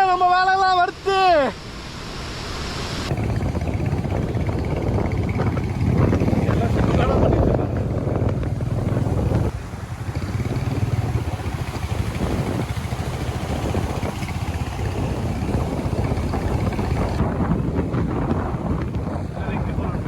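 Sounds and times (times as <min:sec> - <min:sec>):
motorcycle engine pulsing: 0:01.5 - 0:19.3.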